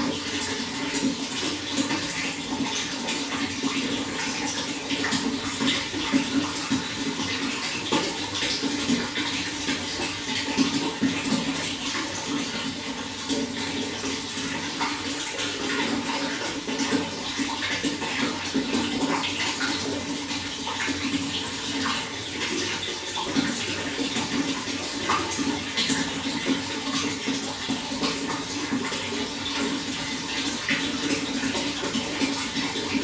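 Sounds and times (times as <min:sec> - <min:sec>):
running water flowing: 0:00.0 - 0:33.0
water splashes and gurgles: 0:00.0 - 0:33.0.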